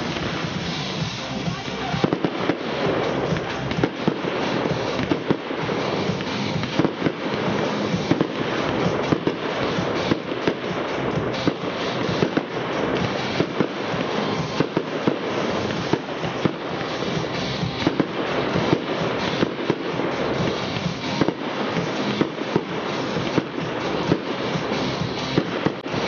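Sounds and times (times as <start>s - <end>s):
fireworks crackling: 0.0s - 26.0s
sharp firework bangs: 0.0s - 26.0s.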